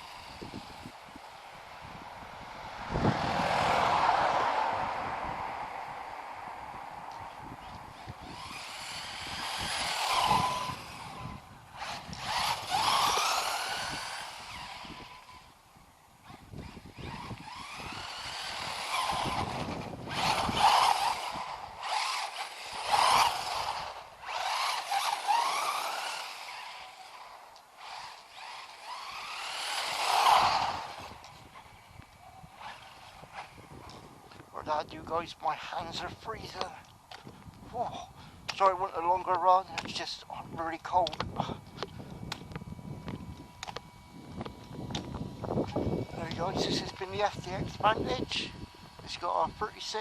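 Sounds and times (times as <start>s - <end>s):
rc car electric motor whining: 0.0s - 2.6s, 7.4s - 34.4s, 38.7s - 50.0s.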